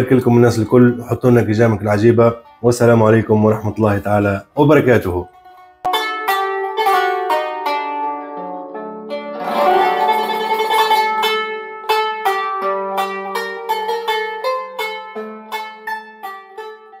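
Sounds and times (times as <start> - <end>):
plucked-string instrumental tune: 0.0 - 17.0.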